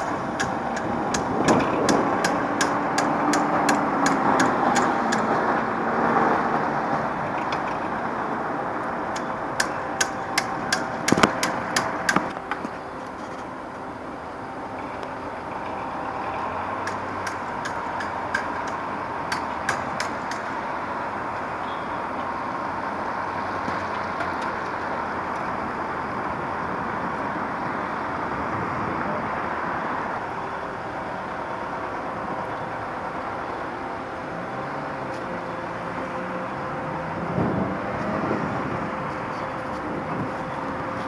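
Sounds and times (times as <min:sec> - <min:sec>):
street traffic noise: 0:00.0 - 0:41.0.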